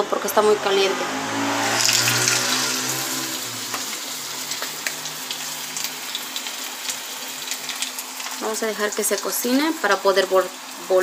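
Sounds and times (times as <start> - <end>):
oil sizzling: 0.1 - 11.0
oil popping and crackling: 1.7 - 11.0.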